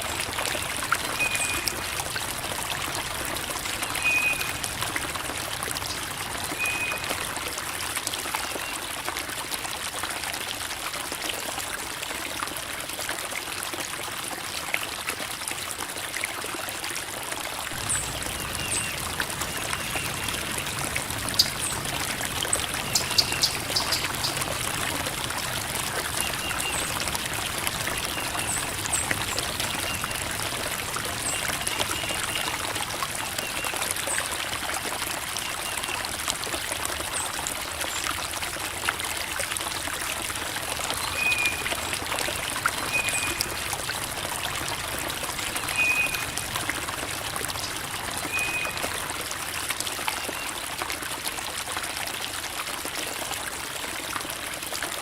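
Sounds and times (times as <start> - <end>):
creek water babbling over rocks: 0.0 - 55.0.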